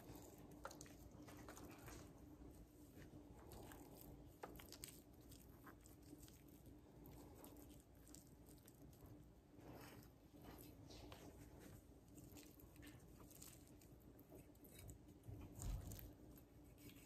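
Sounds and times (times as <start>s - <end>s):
small irregular crackles: 0.0s - 17.0s.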